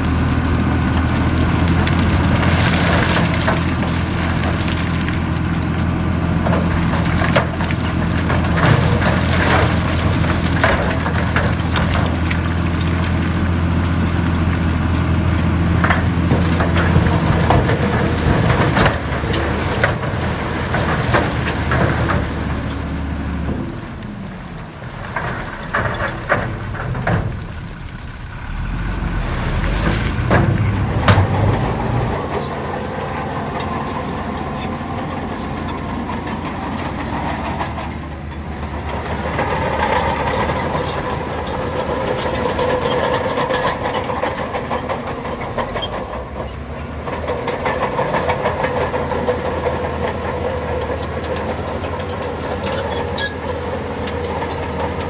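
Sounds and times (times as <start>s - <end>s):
bulldozer diesel engine running: 0.0s - 55.0s
steel tracks whining and clanking: 0.0s - 55.0s.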